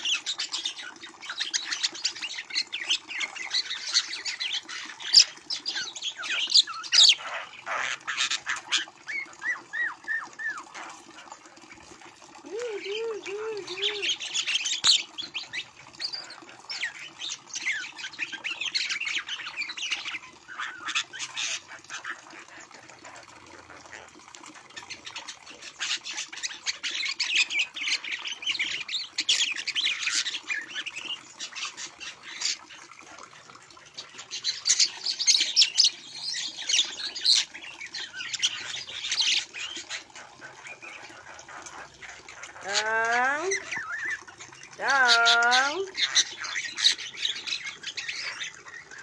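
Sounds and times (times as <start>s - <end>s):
birds chattering squawks: 0.0s - 49.0s.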